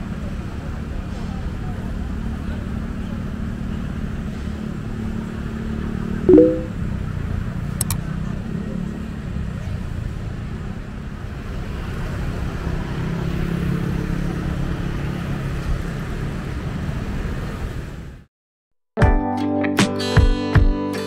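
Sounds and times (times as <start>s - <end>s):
road traffic rumble: 0.0s - 6.2s, 6.8s - 18.2s.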